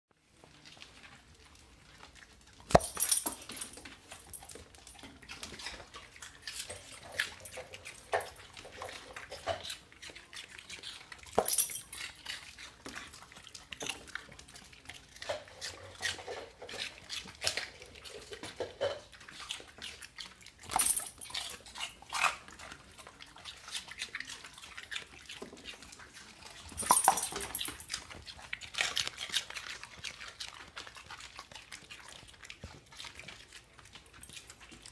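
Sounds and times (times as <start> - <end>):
dogs crunching celery: 0.2 - 34.9
wet chewing: 0.3 - 34.9.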